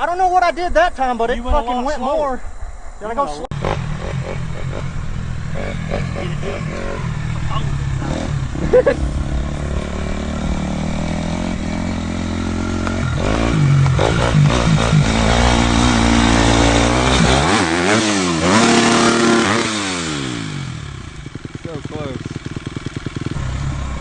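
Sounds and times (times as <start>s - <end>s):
dirt bike engine revving: 3.5s - 24.0s.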